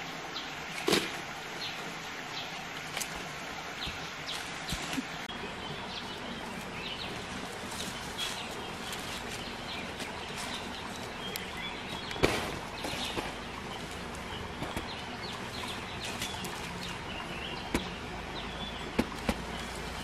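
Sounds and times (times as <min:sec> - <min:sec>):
birds chirping: 0:00.0 - 0:20.0
steady outdoor hiss: 0:00.0 - 0:20.0.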